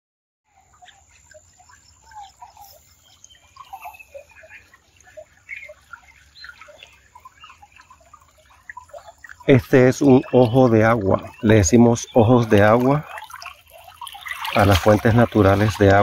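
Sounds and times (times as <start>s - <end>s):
water trickling over stones: 0.5s - 16.0s.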